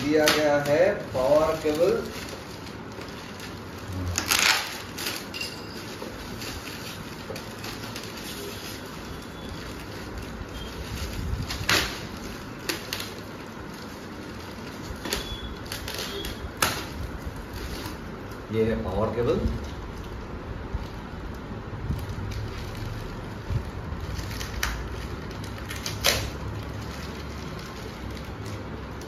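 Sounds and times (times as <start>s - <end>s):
plastic wrapping rustling: 0.0s - 29.0s.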